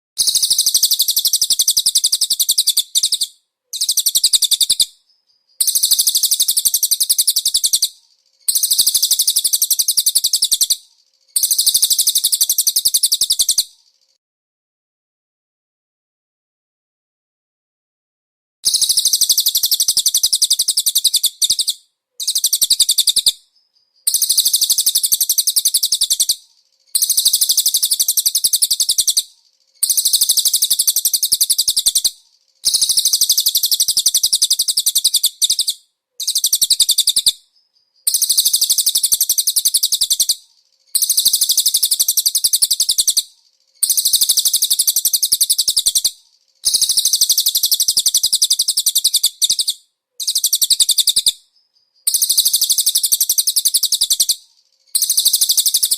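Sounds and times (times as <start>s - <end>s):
high-pitched rapid bird trills: 0.2s - 14.2s, 18.7s - 55.9s.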